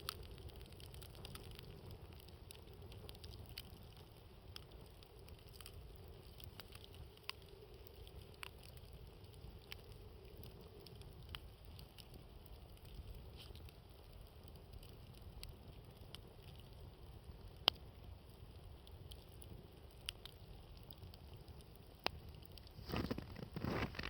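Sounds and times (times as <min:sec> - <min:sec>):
campfire crackling and popping: 0:00.0 - 0:24.0
low wind rumble: 0:00.0 - 0:24.0.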